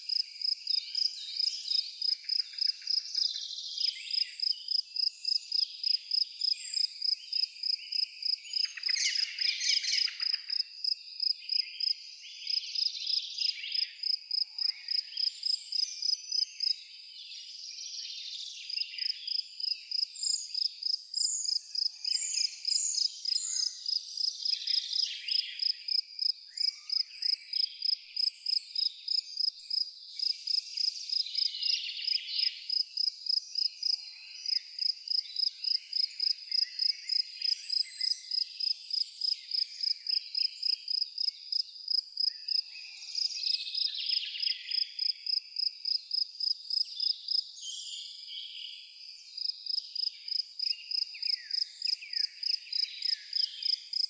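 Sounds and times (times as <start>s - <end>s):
insect chirping: 0.1s - 17.5s, 18.2s - 54.0s.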